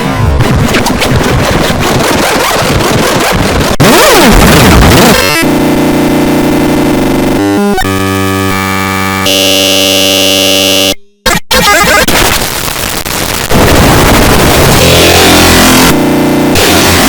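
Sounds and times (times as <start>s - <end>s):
harsh noisy crackle: 0.0s - 8.0s, 11.3s - 17.0s
loud distorted buzzing tones: 0.0s - 17.0s.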